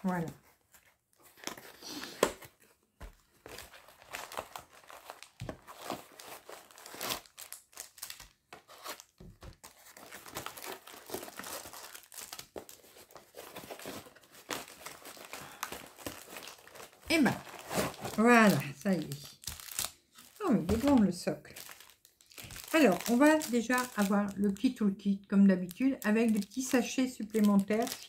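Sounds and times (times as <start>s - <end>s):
packaging crinkling and tearing: 0.4s - 24.8s, 25.7s - 28.0s.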